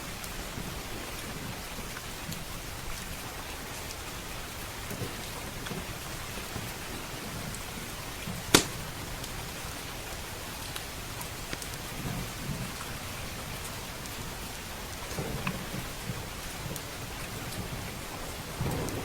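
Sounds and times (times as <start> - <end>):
steady rain: 0.0 - 19.0
wood fire crackling: 0.1 - 19.0.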